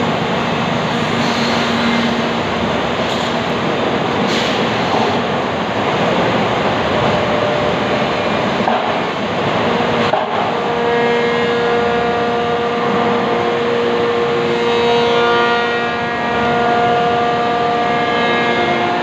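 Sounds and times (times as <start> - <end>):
factory machinery humming: 0.0 - 19.0.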